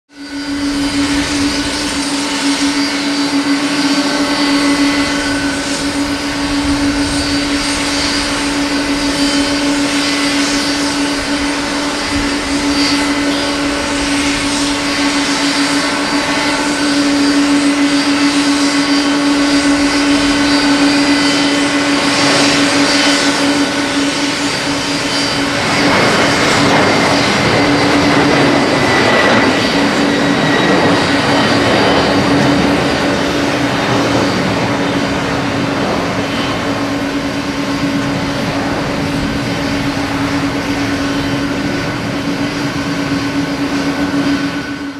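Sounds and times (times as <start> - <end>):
faint high whine: 0.1 - 44.9
jet engines roaring: 0.1 - 44.9.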